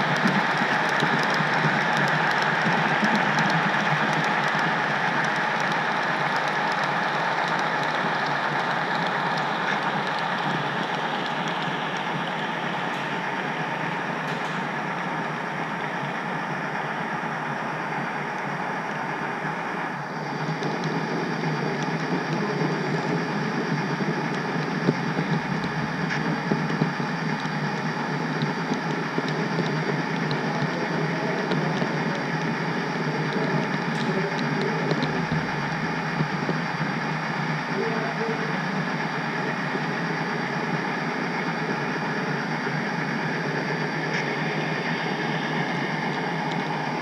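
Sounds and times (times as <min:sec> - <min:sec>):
wheels clicking over rail joints: 0:00.0 - 0:17.4, 0:19.9 - 0:47.0
model train rolling hum and rattle: 0:00.0 - 0:47.0.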